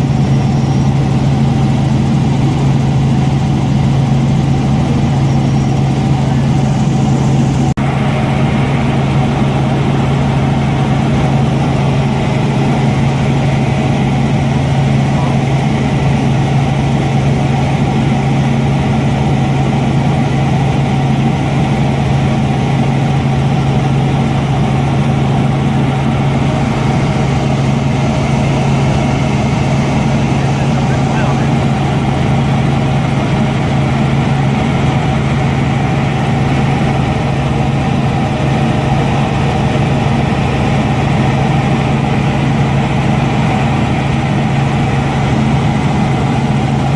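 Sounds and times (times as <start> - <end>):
helicopter engine and rotors: 0.0 - 46.9.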